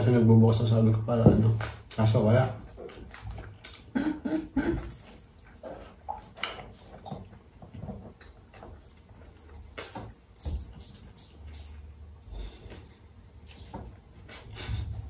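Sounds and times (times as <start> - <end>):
faint chewing: 1.9 - 15.0.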